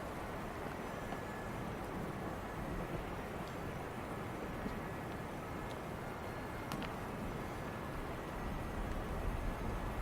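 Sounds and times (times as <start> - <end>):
low rumbling wind: 0.0 - 10.0.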